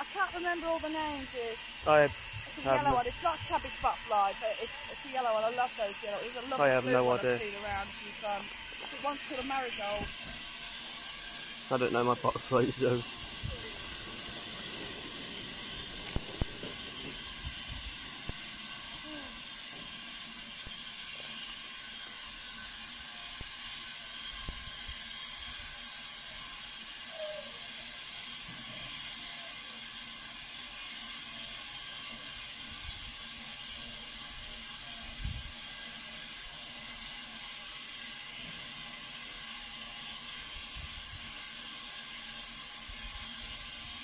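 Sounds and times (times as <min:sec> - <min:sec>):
steam hissing: 0:00.0 - 0:44.0.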